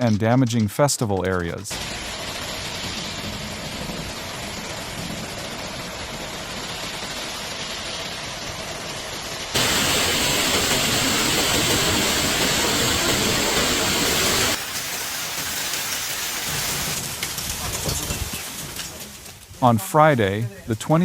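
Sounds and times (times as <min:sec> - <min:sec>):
heavy rain pouring: 0:01.7 - 0:19.2.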